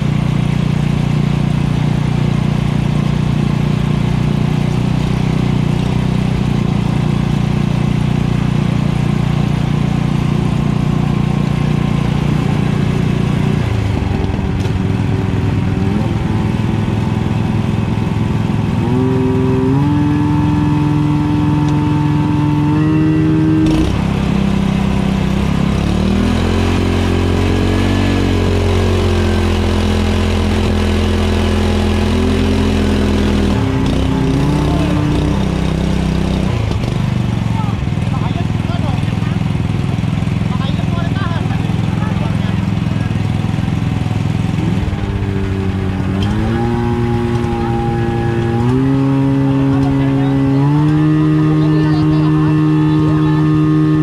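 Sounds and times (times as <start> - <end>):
pump engine running: 0.0 - 54.0.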